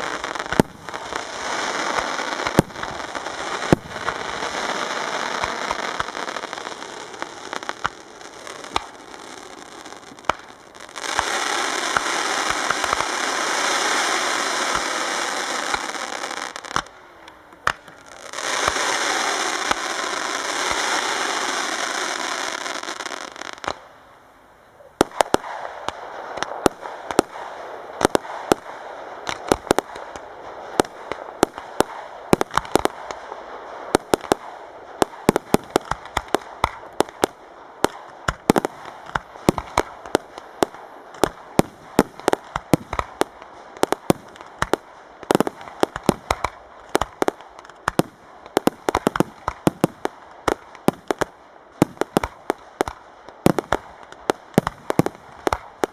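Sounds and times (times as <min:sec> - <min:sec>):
fireworks cracks and bangs: 0:00.0 - 0:23.9, 0:25.0 - 0:55.9
fireworks hissing crackle: 0:00.0 - 0:55.9.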